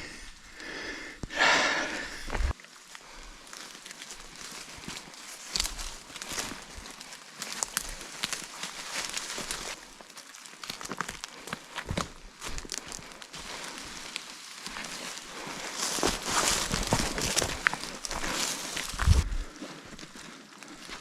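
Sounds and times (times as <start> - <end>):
footsteps through wet undergrowth: 2.2 - 21.0.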